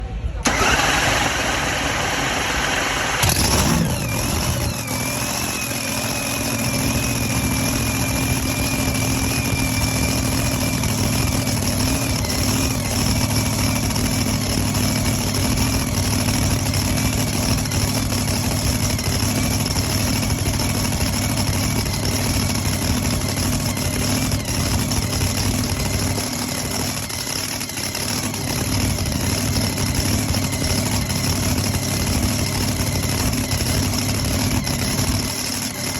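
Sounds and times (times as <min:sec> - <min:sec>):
supercharger whine: 0:00.2 - 0:35.9
engine loud burst: 0:00.4 - 0:35.9
truck engine idling: 0:00.4 - 0:35.9.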